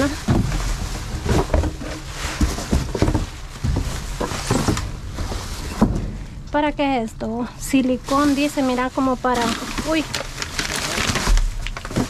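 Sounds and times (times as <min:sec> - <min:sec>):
plastic bags rustling: 0:00.0 - 0:06.7, 0:07.4 - 0:12.0.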